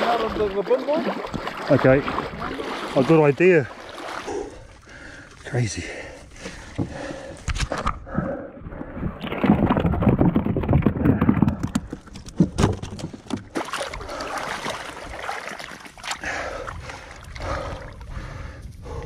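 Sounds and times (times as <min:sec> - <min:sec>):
water sloshing: 0:00.0 - 0:18.5.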